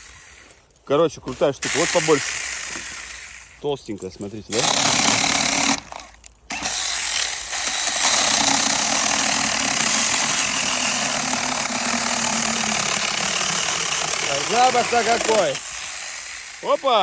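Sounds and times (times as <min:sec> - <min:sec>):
power saw cutting wood: 0:01.2 - 0:03.5, 0:04.5 - 0:17.0.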